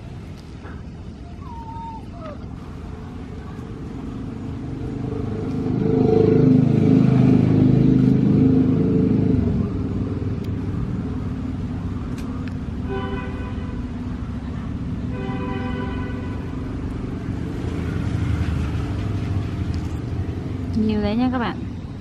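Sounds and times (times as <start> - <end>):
passing vehicle engine rumble: 0.0 - 22.0.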